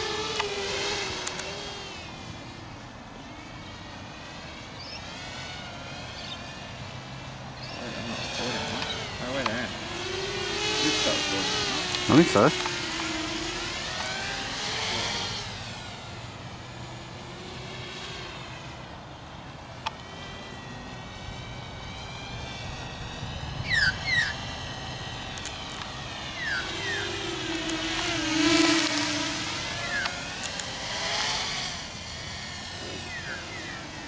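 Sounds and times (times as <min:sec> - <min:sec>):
drone motors and propellers whining: 0:00.0 - 0:34.0.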